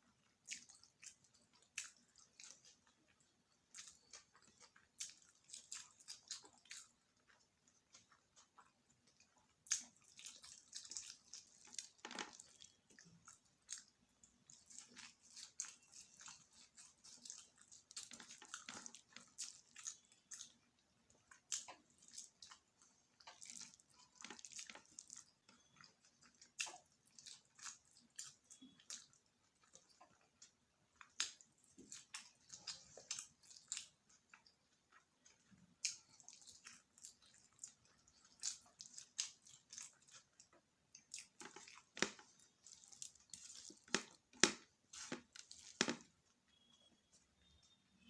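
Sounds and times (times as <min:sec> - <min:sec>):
chewing mouth sounds: 0:00.1 - 0:46.7.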